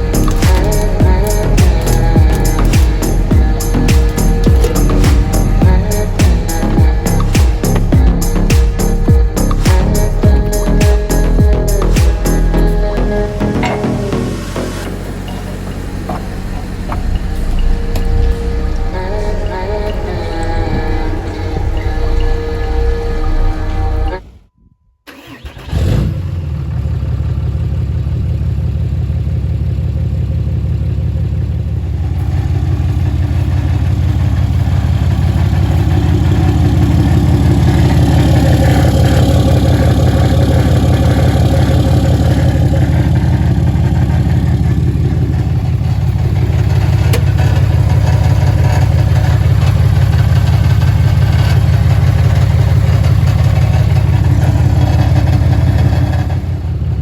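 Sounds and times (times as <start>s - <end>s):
truck engine running: 0.0s - 24.4s, 25.1s - 57.0s.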